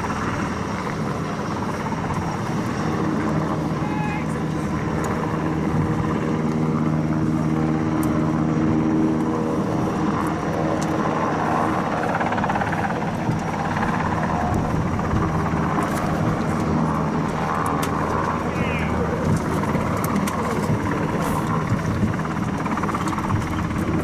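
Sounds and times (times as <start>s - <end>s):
engine droning hum: 0.0s - 24.0s.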